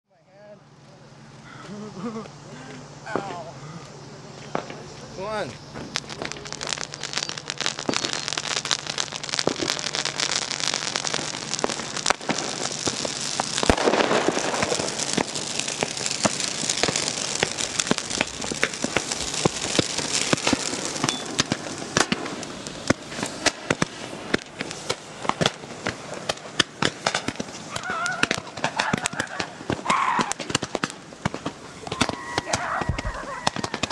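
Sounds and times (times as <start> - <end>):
fireworks crackling and popping: 0.1 - 33.9
rushing firework burst: 1.2 - 33.9.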